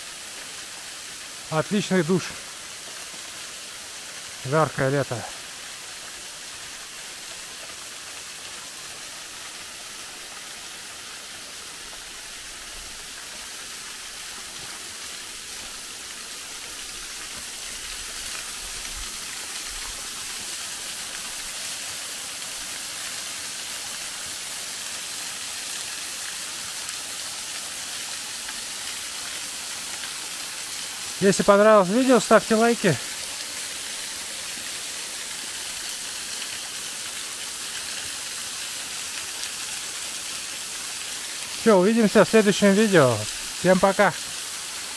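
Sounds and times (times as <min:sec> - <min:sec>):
waterfall splashing onto rocks: 0:00.0 - 0:44.9.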